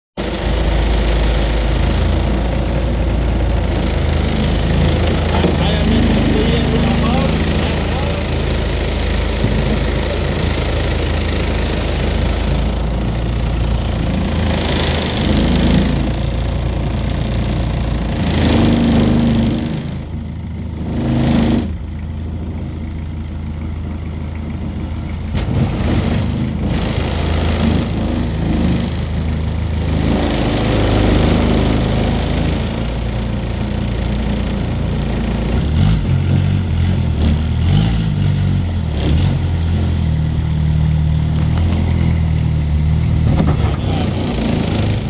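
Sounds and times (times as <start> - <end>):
boat engine humming: 0.2 - 45.0.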